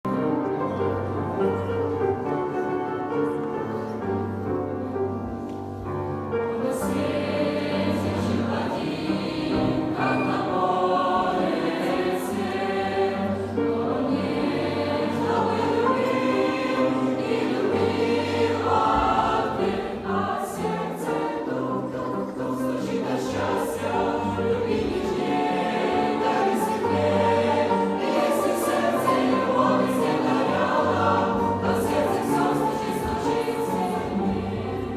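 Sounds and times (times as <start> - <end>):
choir singing: 0.1 - 34.9
instrumental accompaniment: 0.1 - 34.9.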